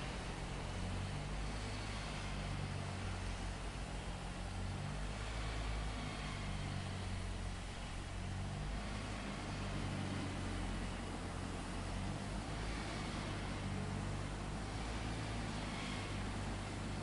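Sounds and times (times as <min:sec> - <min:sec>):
even hiss: 0:00.0 - 0:17.0
heavy machinery engine running: 0:00.0 - 0:17.0.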